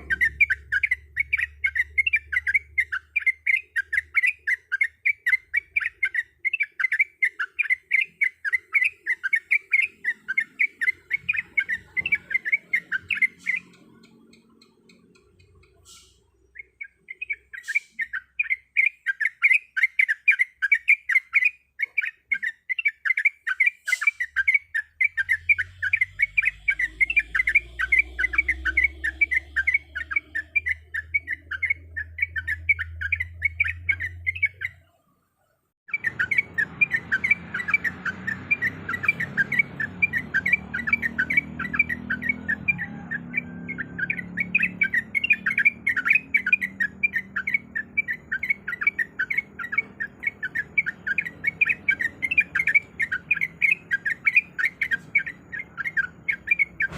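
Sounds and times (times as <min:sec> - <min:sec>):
bird chattering chirps: 0:00.0 - 0:35.1, 0:35.9 - 0:56.9.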